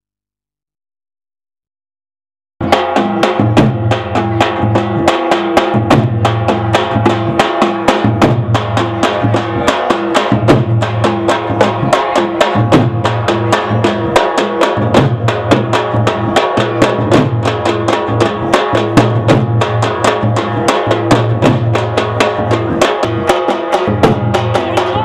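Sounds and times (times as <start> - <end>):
drums playing fast beat: 2.6 - 25.0.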